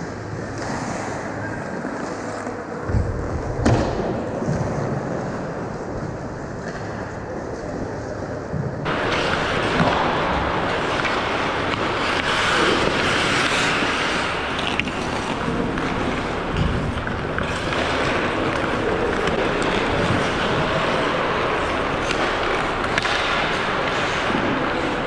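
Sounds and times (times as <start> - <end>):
skate blades scraping ice: 0.1 - 2.9, 4.2 - 25.0.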